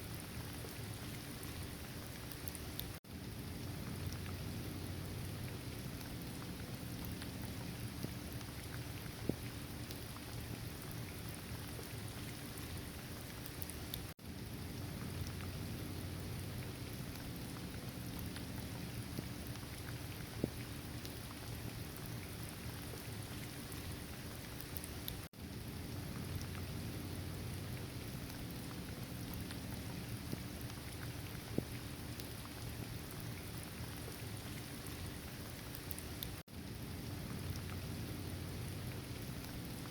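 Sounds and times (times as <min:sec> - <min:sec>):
steady rain falling: 0:00.0 - 0:39.9
raindrops ticking: 0:00.1 - 0:39.9.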